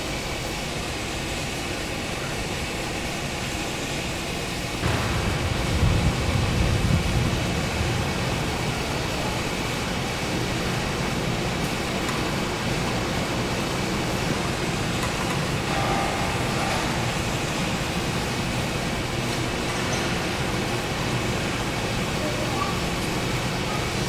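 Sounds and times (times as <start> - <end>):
factory machinery din: 4.6 - 24.0.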